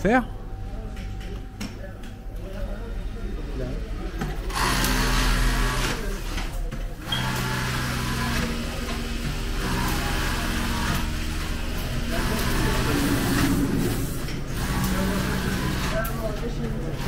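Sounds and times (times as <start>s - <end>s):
sewing machines running in bursts: 3.0s - 17.0s.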